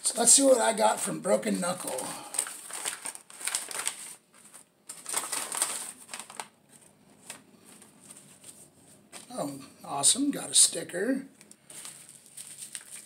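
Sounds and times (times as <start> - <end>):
plastic mailer crinkling: 0.3 - 9.3, 11.4 - 13.0.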